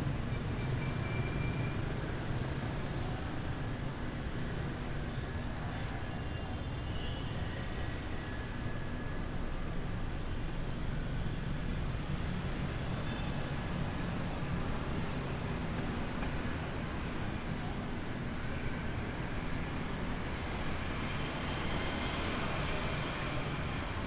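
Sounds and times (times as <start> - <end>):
city street traffic rumble: 0.0 - 24.0.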